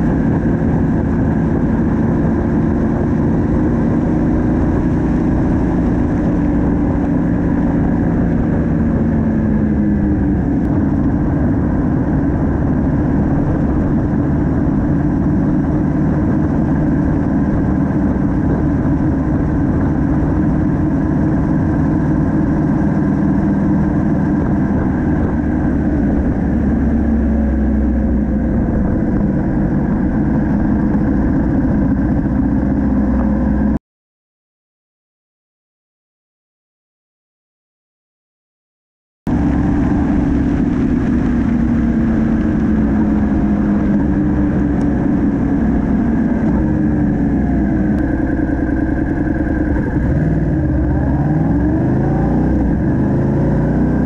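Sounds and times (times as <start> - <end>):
motorcycle engine running: 0.0 - 33.8, 39.3 - 54.0.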